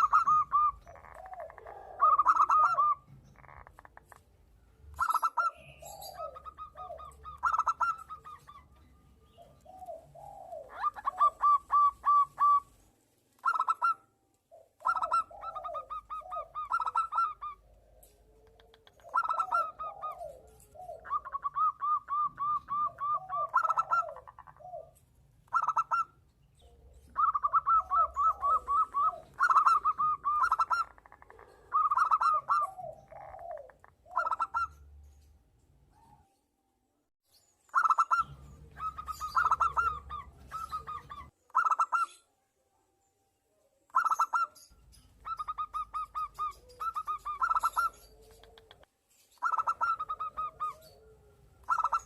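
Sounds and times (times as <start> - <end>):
doves cooing: 0.0 - 4.3, 4.9 - 12.8, 13.4 - 34.9, 37.8 - 42.2, 45.2 - 52.0.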